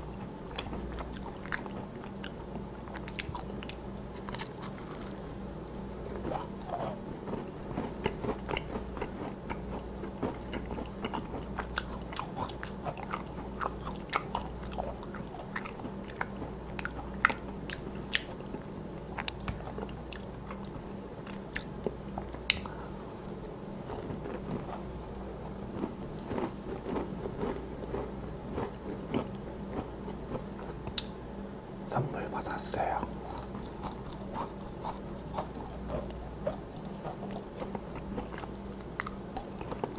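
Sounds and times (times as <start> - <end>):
crisp shell crackling while chewed: 0.0 - 31.2, 32.8 - 39.9.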